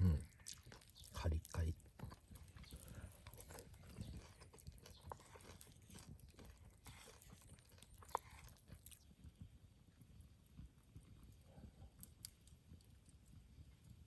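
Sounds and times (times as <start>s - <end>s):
small clicks and crackles: 0.3s - 14.0s.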